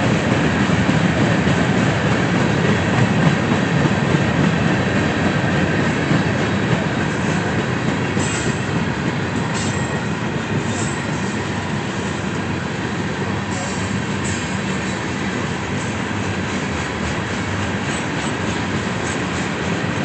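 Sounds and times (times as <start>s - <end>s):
train wheels on track: 0.0s - 20.0s.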